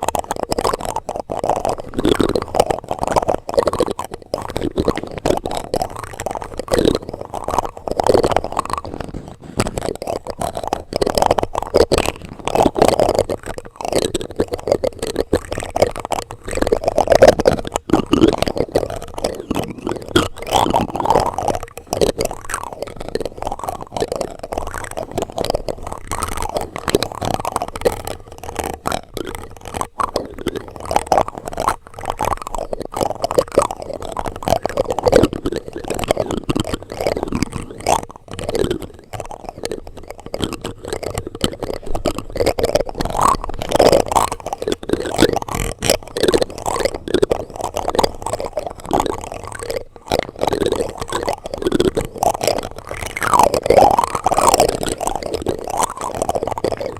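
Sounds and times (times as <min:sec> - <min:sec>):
plastic utensils scraping on microphone: 0:00.0 - 0:56.9.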